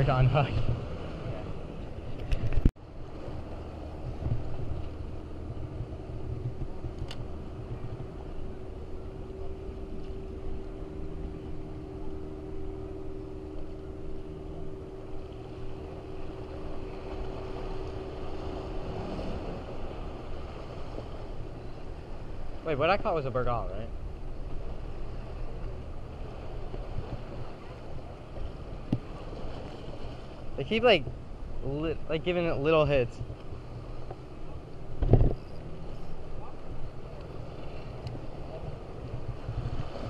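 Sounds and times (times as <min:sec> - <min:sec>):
steady low hum: 0:00.0 - 0:40.0
wind: 0:00.0 - 0:40.0.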